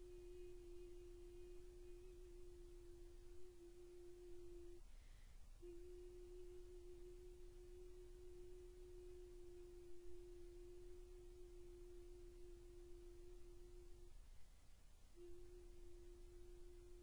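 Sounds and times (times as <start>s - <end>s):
soprano voice holding a note: 0.0s - 14.2s, 15.2s - 17.0s.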